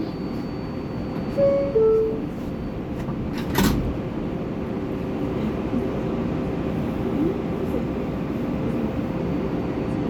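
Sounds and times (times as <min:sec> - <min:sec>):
hum of stopped train: 0:00.0 - 0:10.0.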